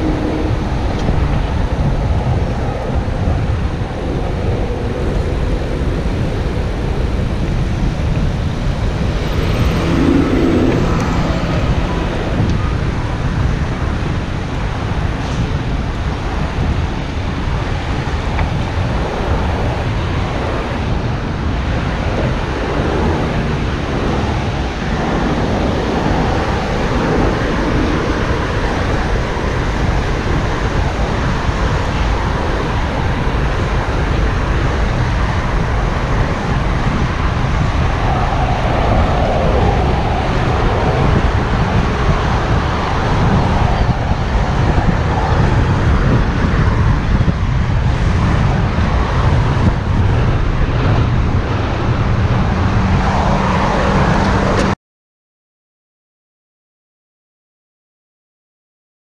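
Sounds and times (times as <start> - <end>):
cars passing: 0.0 - 54.8
wind rumble on microphone: 0.0 - 54.8.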